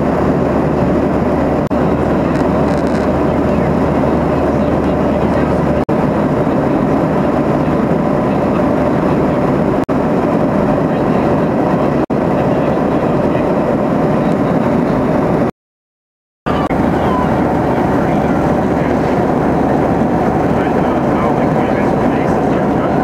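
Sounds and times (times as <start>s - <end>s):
airplane cabin engine noise: 0.0s - 15.6s, 16.5s - 23.0s.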